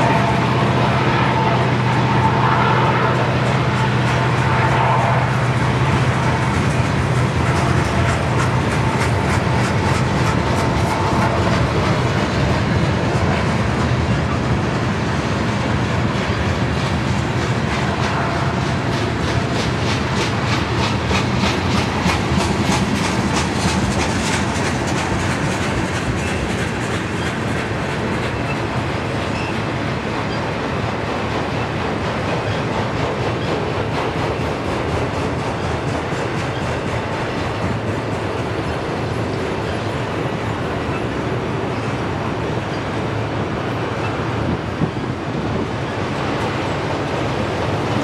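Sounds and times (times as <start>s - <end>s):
freight train wheels clickety-clack: 0.0s - 48.0s.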